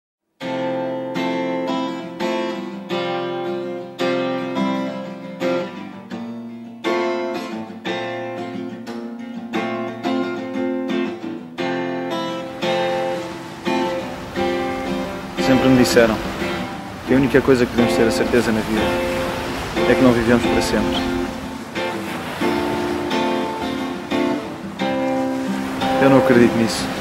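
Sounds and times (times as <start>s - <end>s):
acoustic guitar chords ringing: 0.4s - 27.0s.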